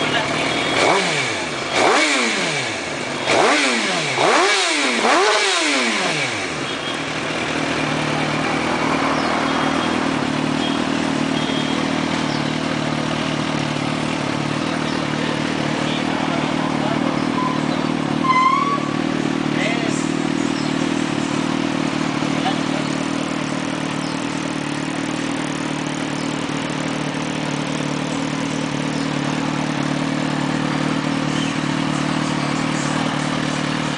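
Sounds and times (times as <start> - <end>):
motorcycle engine idling: 0.0 - 33.9
motorcycle engine revving: 0.0 - 33.9.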